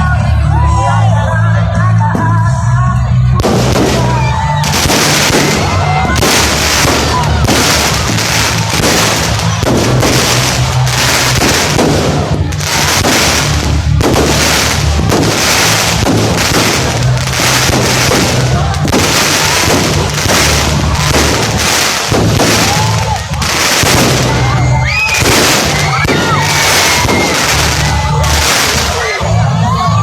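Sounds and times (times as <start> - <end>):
bass-heavy music from sound system: 0.0 - 30.0
fireworks crackling and bursting: 3.4 - 30.0.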